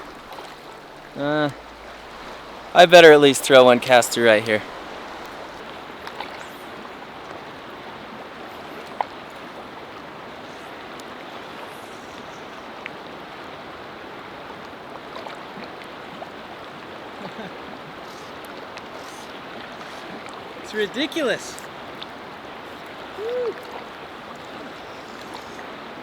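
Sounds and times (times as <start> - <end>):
fast river water rushing: 0.0 - 26.0.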